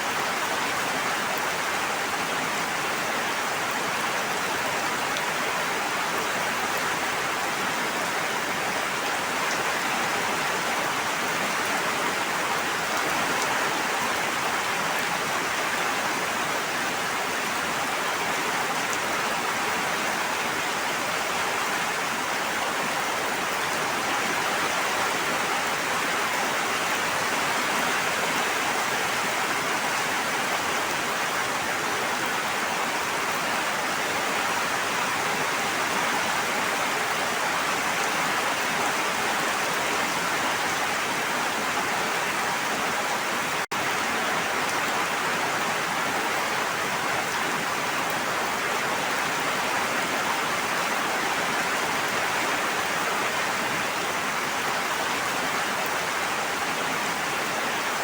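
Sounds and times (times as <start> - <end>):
continuous water hissing: 0.0 - 58.0.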